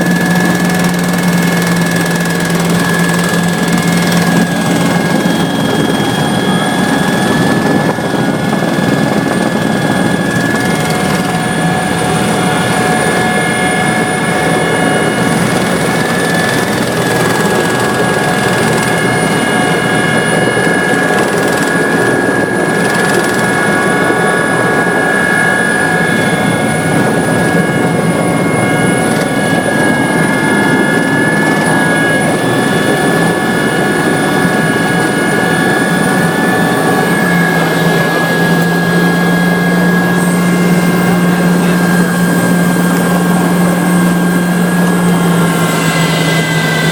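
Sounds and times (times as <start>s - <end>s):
helicopter engine and rotor noise: 0.0s - 46.9s
high whine: 0.0s - 46.9s.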